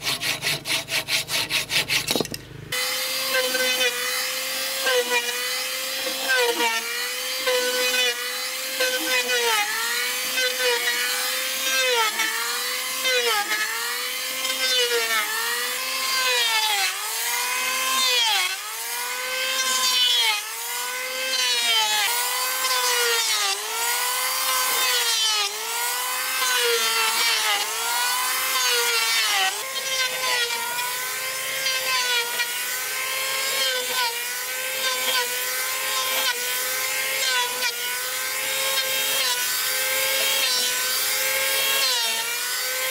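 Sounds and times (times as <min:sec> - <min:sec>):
hand saw cutting wood: 0:00.0 - 0:42.9.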